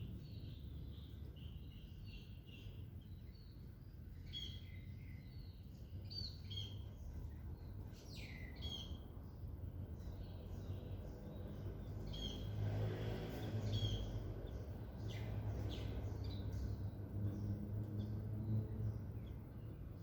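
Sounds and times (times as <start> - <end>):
small birds chirping and whistling: 0.0 - 20.0.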